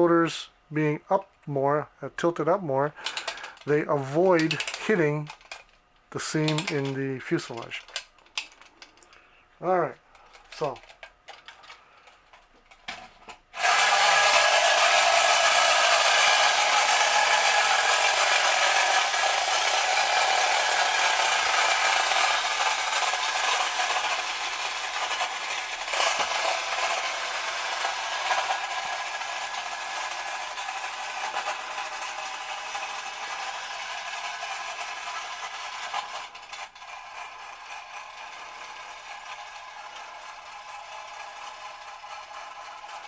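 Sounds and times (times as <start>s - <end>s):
clockwork toy whirring rattle: 3.0s - 43.0s.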